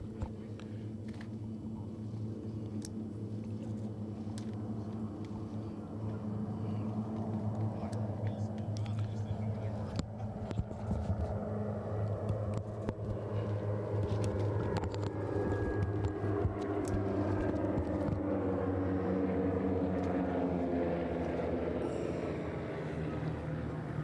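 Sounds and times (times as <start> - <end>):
propeller airplane engine droning: 0.0 - 24.0.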